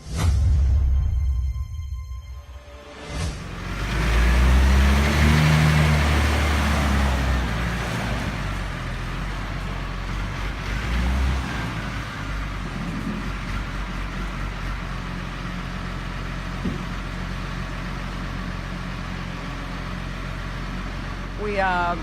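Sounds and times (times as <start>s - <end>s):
heavy vehicle engine humming: 0.8s - 22.0s
machinery noise: 2.2s - 22.0s.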